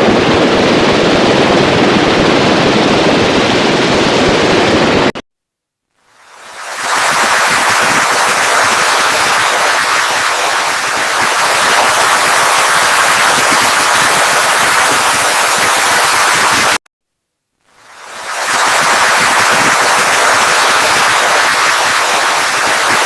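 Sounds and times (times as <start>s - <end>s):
harsh crackling static noise: 0.0s - 5.2s, 5.8s - 23.0s.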